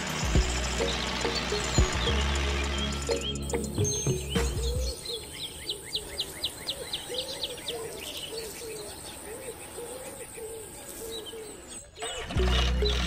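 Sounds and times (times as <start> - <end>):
bird low arched call: 0.8 - 13.0.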